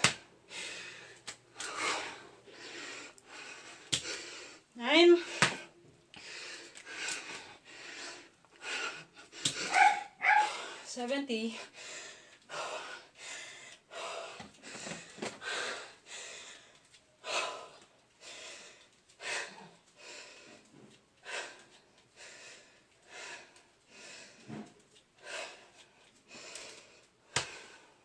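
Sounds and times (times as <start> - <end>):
person panting heavily: 0.5 - 10.9, 11.5 - 24.6, 25.2 - 28.0.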